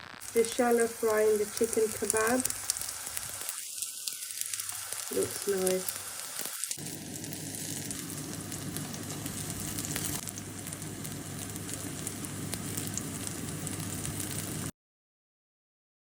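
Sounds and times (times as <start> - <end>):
meat sizzling in hot oil: 0.0 - 14.7
oil crackling pops: 1.6 - 14.7.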